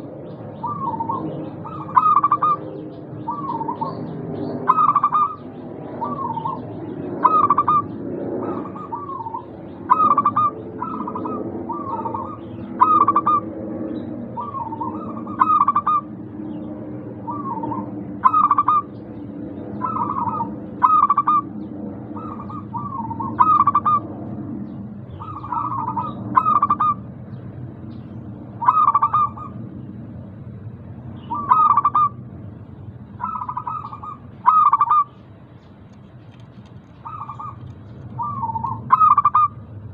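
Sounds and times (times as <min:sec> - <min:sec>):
dove cooing: 0:00.0 - 0:24.4, 0:25.1 - 0:27.2, 0:28.4 - 0:29.8, 0:31.2 - 0:32.3, 0:33.0 - 0:35.2, 0:36.3 - 0:39.9
low steady hum: 0:00.0 - 0:39.9.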